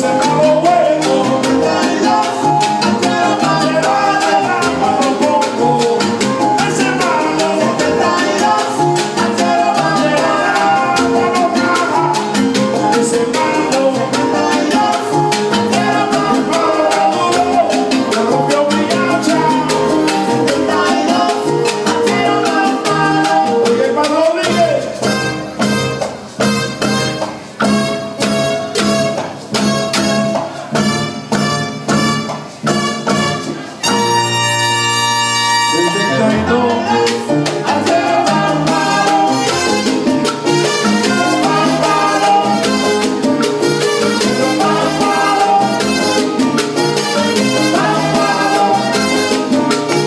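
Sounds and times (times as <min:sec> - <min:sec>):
conga drums: 0:00.0 - 0:50.0
live salsa band playing: 0:00.0 - 0:50.0
trumpet: 0:00.0 - 0:50.0.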